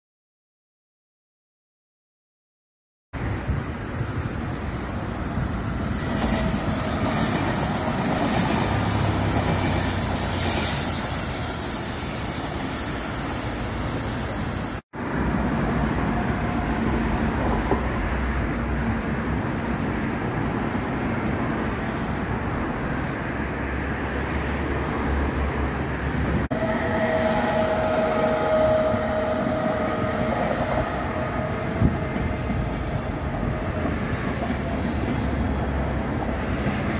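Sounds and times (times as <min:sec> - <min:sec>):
train wheels rumbling: 0:03.2 - 0:21.6, 0:24.2 - 0:36.9.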